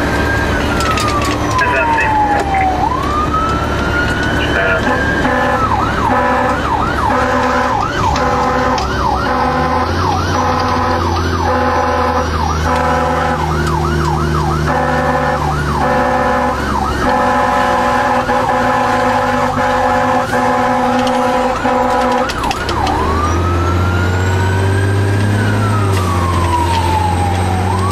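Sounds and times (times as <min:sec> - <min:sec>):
siren yelping: 0:00.0 - 0:27.9.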